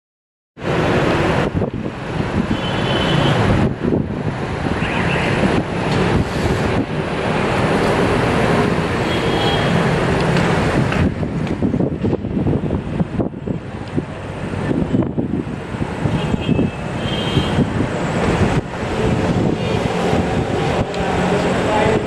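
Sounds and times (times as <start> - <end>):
traffic rumble and hiss: 0.6 - 22.0
wind on microphone: 0.6 - 22.0.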